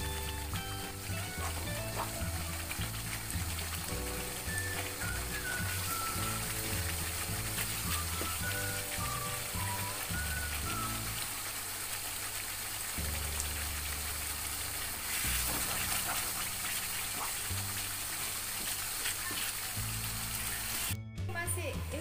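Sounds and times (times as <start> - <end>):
background music with slow bass: 0.0 - 11.4, 13.0 - 22.0
paste sizzling in a wok: 0.0 - 21.0.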